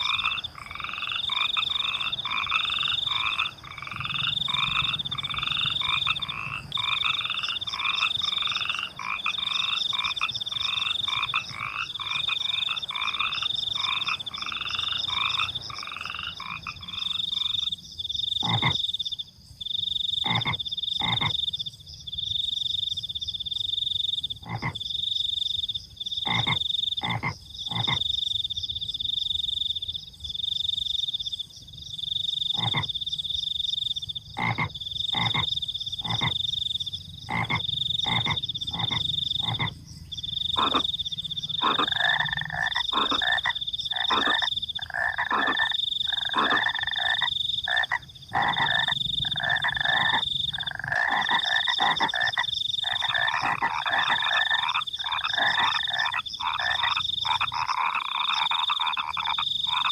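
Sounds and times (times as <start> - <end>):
crickets trilling: 0.0 - 59.9
frogs croaking: 0.0 - 59.9.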